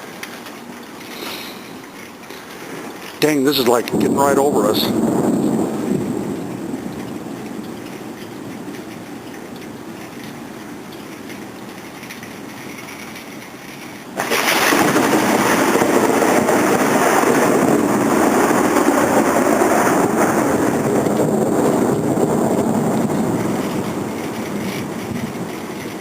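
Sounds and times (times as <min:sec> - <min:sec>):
thunderstorm: 0:02.7 - 0:13.1, 0:14.2 - 0:26.0.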